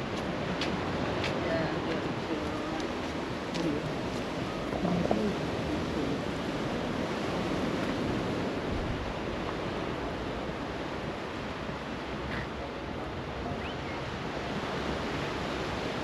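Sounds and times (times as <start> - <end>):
sea waves and surf: 0.0 - 16.0
wind: 0.0 - 16.0.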